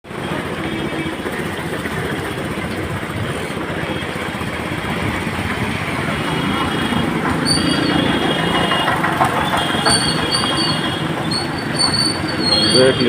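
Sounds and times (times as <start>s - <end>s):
vehicle engine with road rumble: 0.0s - 13.0s.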